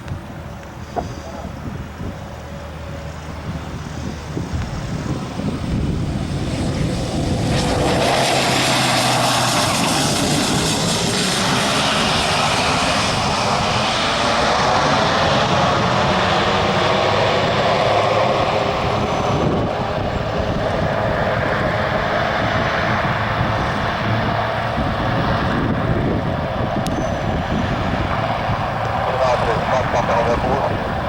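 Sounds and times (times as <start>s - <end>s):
small airplane engine: 0.0s - 31.0s.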